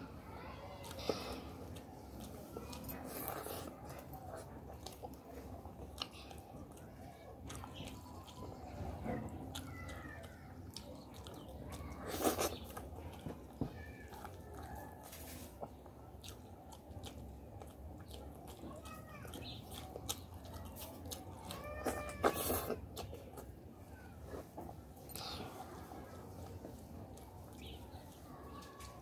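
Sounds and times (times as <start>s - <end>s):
wet chewing and lip smacks: 0.6s - 29.0s.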